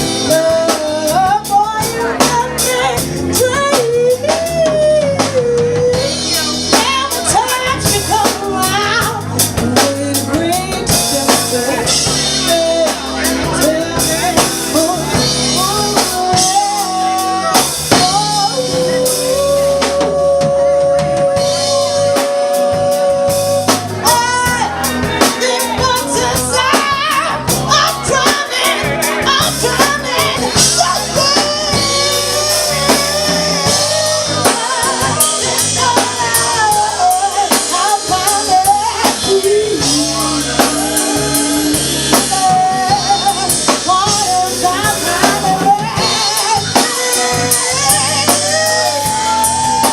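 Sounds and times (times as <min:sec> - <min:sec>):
bass line: 0:00.0 - 0:49.9
drum kit beat: 0:00.0 - 0:49.9
person singing: 0:00.0 - 0:49.9.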